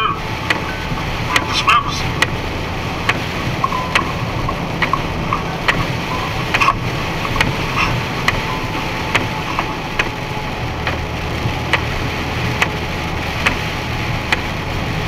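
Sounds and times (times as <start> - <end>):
truck engine drone: 0.0 - 15.0
tyre and rain noise: 0.0 - 15.0.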